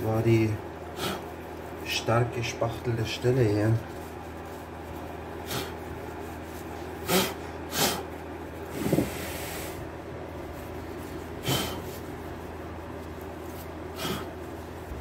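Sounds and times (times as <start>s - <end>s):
steady low hum: 0.0s - 15.0s
cloth rag wiping swishes: 1.4s - 7.0s, 8.0s - 15.0s.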